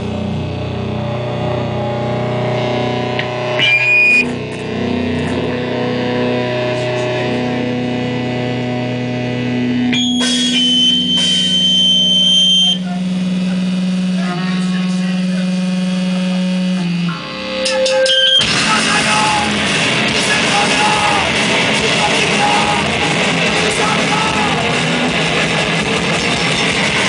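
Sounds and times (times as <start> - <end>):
distorted electric guitars droning: 0.0 - 27.0
high feedback whine: 0.0 - 27.0.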